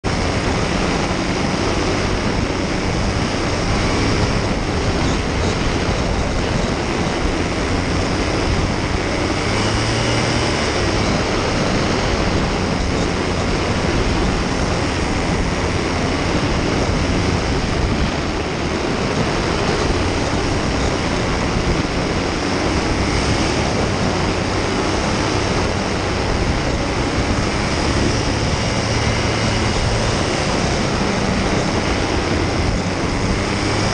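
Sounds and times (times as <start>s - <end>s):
paramotor engine droning: 0.0s - 33.9s.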